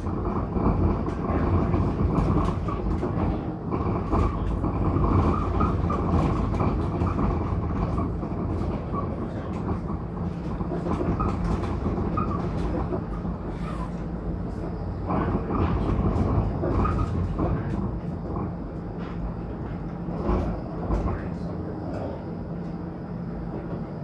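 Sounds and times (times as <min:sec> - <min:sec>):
streetcar rumble on rails: 0:00.0 - 0:24.0.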